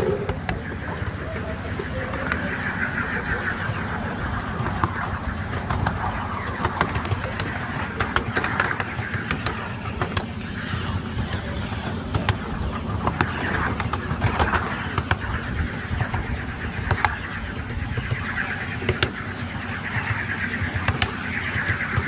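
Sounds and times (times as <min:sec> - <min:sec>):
miniature train rumbling on track: 0:00.0 - 0:22.0
wheels clattering on rails: 0:00.0 - 0:22.0.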